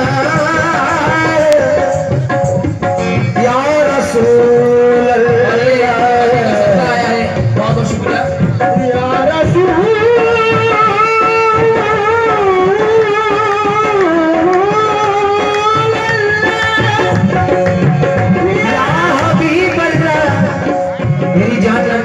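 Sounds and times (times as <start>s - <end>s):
hand drum playing: 0.0s - 22.0s.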